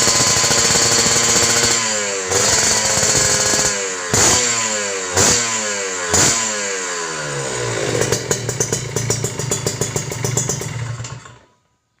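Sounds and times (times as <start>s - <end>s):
motorcycle engine blipped and idling: 0.0s - 11.8s.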